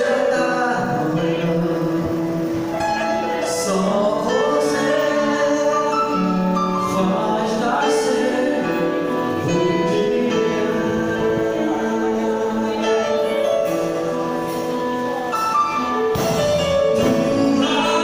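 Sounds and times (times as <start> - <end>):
gospel band playing: 0.0 - 18.0.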